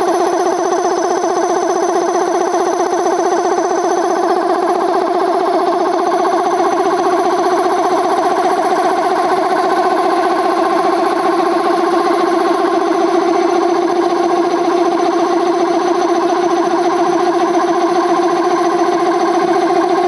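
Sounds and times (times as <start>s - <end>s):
air compressor pump running: 0.0s - 20.0s.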